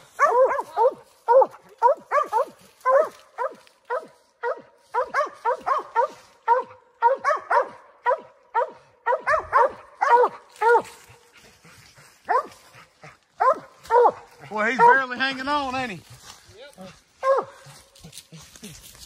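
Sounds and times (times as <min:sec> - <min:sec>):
dogs barking: 0:00.0 - 0:15.4, 0:17.2 - 0:17.9.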